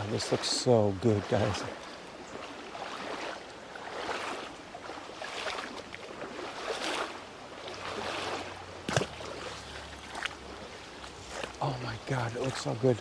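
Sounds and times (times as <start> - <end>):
shallow stony creek running: 0.0 - 13.0.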